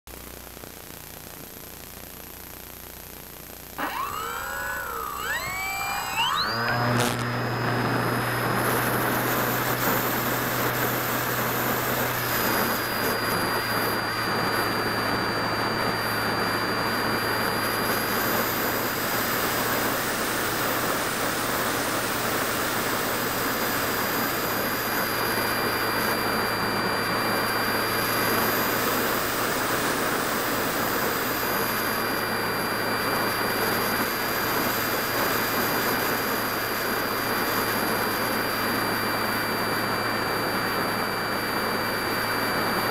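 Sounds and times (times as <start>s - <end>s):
high electric motor whine: 2.5s - 42.9s.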